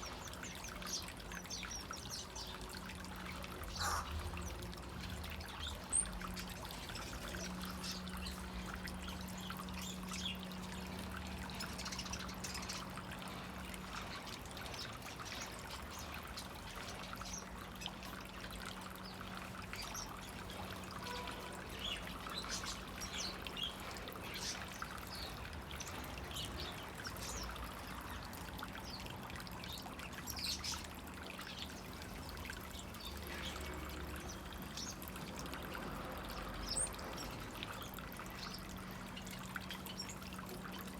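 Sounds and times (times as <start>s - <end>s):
small cage birds chirping: 0.0s - 35.3s, 36.4s - 40.9s
water pouring and trickling: 0.0s - 40.9s.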